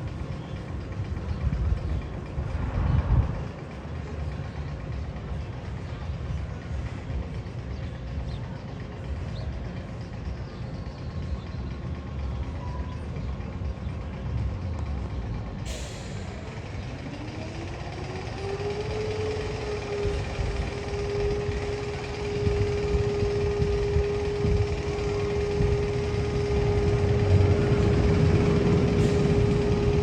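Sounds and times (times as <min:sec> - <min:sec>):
roller coaster rumbling on track: 0:00.0 - 0:30.0.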